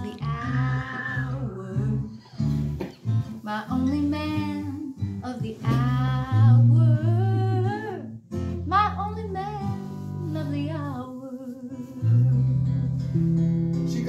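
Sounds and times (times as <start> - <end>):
woman singing: 0.0 - 2.6, 3.3 - 12.7
acoustic guitar: 0.0 - 14.0.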